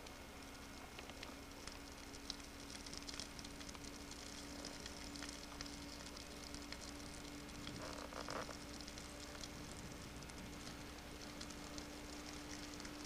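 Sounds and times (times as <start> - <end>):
twigs crackling in fire: 0.0 - 13.0.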